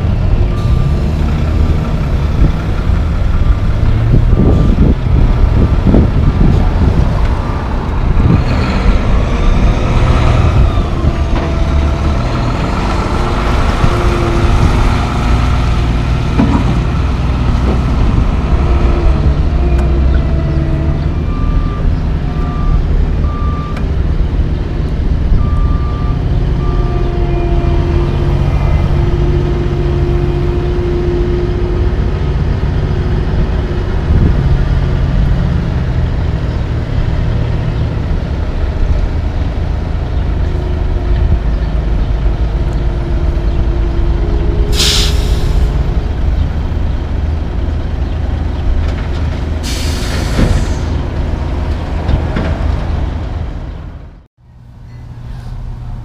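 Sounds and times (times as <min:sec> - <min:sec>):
diesel truck engines running: 0:00.0 - 0:56.0.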